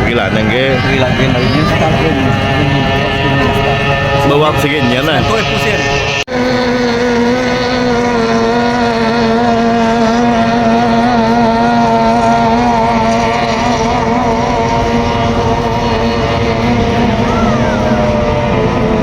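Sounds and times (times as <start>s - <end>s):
outboard engine running: 0.0s - 19.0s.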